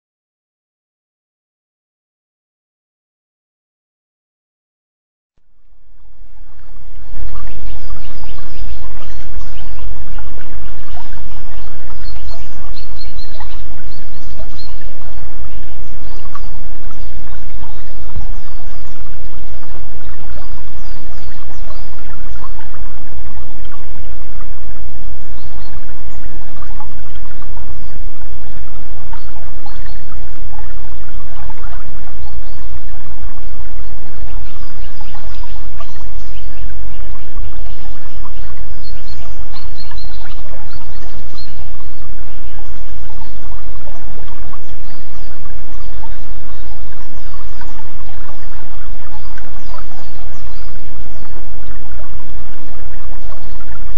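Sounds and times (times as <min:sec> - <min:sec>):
birds chirping: 0:06.1 - 0:52.2.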